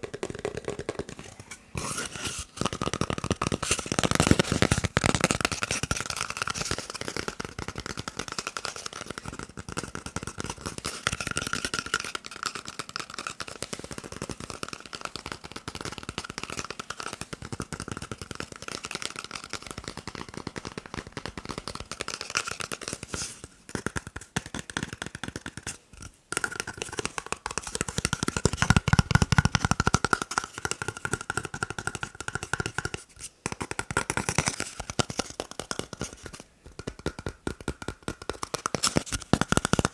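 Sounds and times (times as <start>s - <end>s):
fingers tapping on paper roll: 0.0s - 1.9s, 2.6s - 39.9s.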